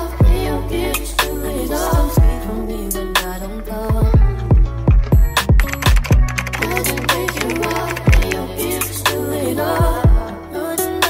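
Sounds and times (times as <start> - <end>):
sung vocal line: 0.0 - 5.3, 5.9 - 11.0.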